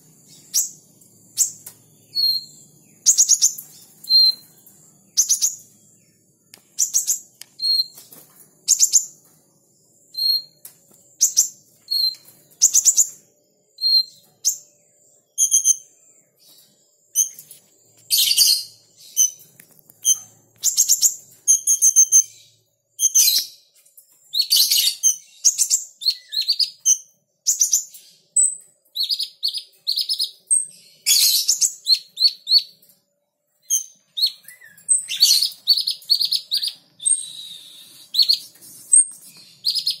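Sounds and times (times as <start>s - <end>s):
bird high chirps and trills: 0.0s - 40.0s.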